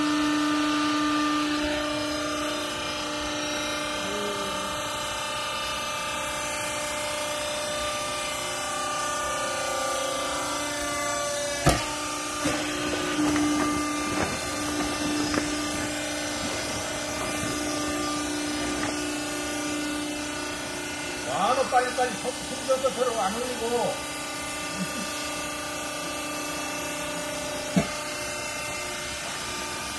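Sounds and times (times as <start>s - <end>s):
pump motor humming: 0.0s - 29.9s.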